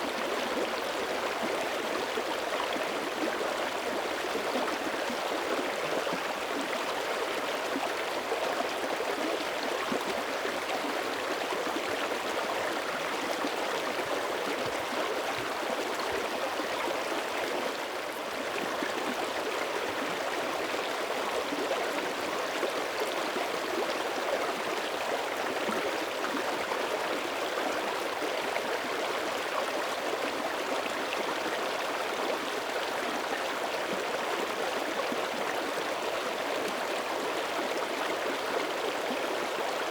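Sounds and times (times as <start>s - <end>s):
creek babbling over stones: 0.0s - 39.9s.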